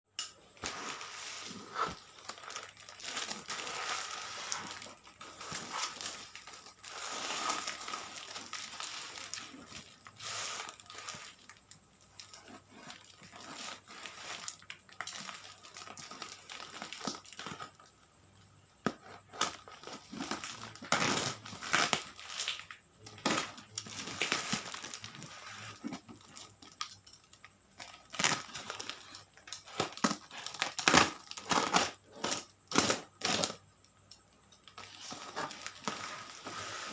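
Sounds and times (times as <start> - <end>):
packaging crinkling and tearing: 0.6 - 17.7, 19.3 - 27.0, 27.8 - 33.6.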